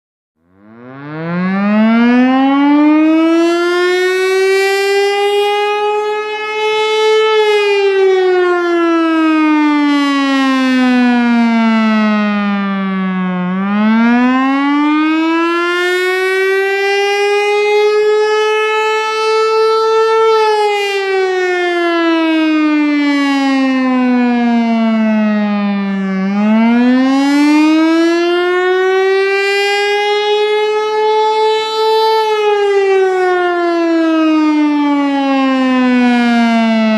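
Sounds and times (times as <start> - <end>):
warning siren wailing: 0.4 - 36.9.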